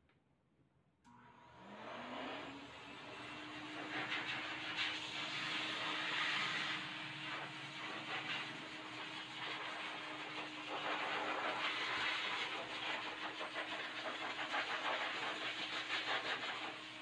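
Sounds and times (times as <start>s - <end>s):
blow dryer running: 1.1s - 17.0s.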